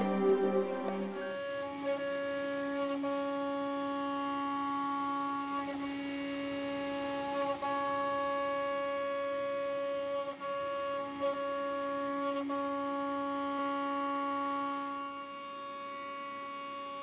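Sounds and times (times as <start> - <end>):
cnc router cutting aluminium: 0.0 - 17.0.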